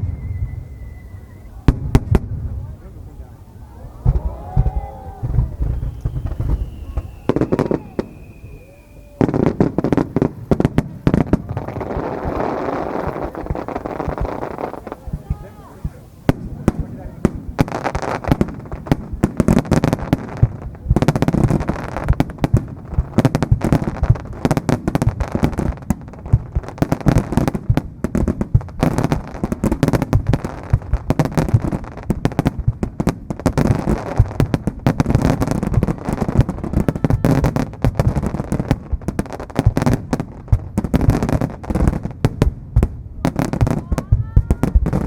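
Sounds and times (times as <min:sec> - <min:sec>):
fireworks booming in barrage: 0:00.0 - 0:45.0.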